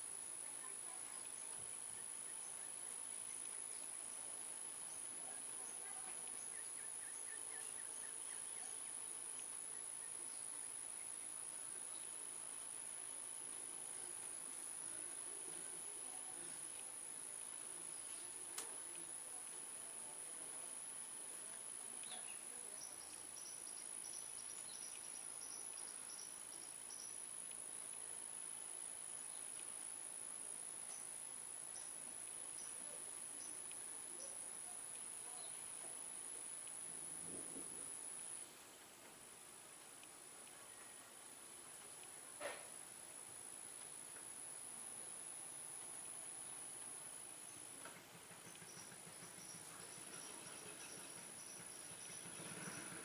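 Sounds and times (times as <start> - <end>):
faint hiss: 0.0 - 53.0
high insect tone: 0.0 - 53.0
steady high-pitched whine: 0.0 - 53.0.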